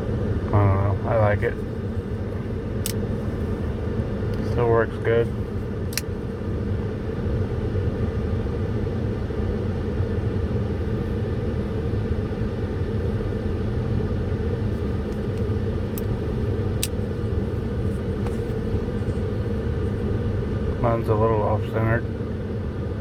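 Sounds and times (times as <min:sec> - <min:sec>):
vehicle rumble: 0:00.0 - 0:23.0.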